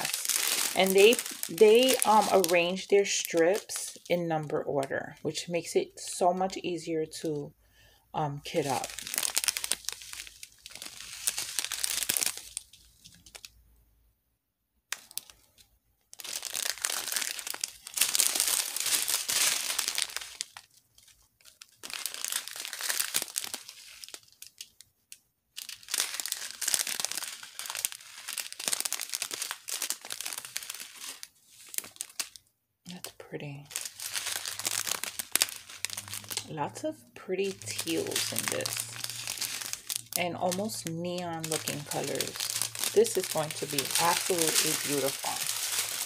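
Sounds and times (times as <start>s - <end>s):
plastic bags crinkling: 0.0s - 4.2s, 8.5s - 13.5s, 14.9s - 25.0s, 25.6s - 46.0s.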